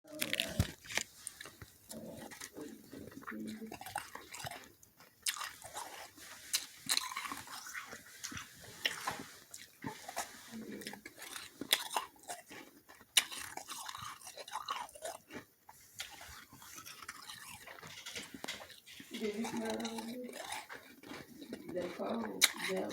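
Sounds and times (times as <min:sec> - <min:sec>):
chewing soft ice crunches: 0:00.1 - 0:22.9.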